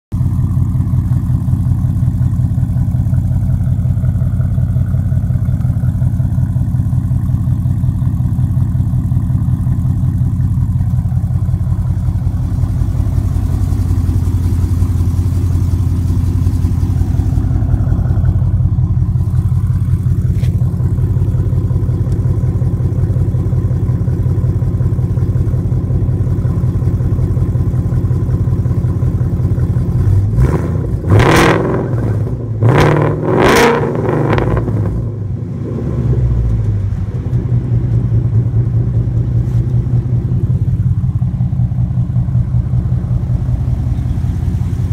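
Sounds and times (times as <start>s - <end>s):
car engine idling: 0.1s - 44.9s.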